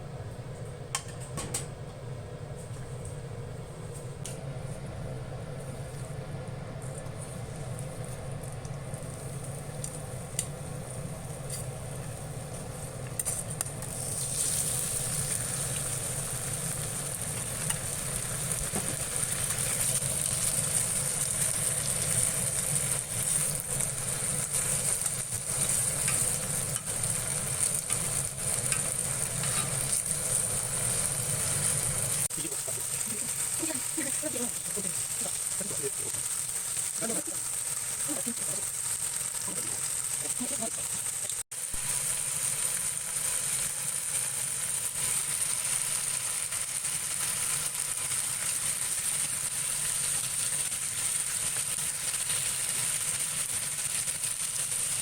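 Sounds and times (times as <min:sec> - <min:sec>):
stir-fry sizzling in a frying pan: 0:03.8 - 0:55.0.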